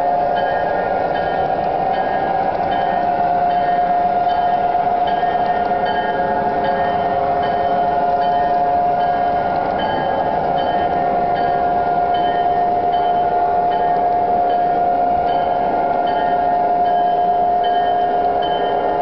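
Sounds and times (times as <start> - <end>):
model train cars rolling: 0.0 - 19.0
electronic bell ringing: 0.4 - 19.0.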